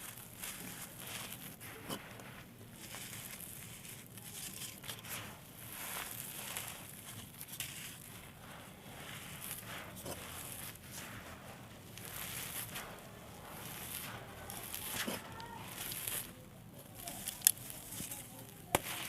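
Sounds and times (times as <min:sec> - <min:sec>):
dry sand-clay crumbling: 0:00.0 - 0:19.0.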